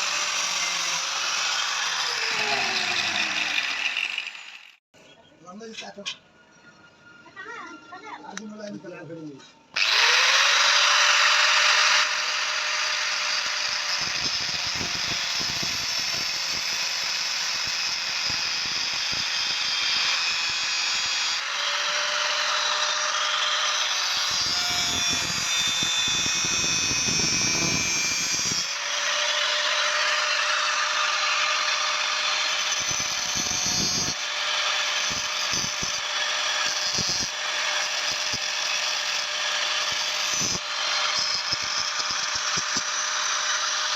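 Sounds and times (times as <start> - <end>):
power tool grinding steel: 0.0 - 4.8, 9.8 - 43.9.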